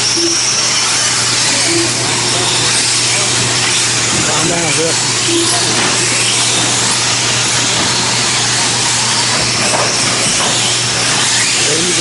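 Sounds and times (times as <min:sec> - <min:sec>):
rc trucks motors whining: 0:00.0 - 0:12.0.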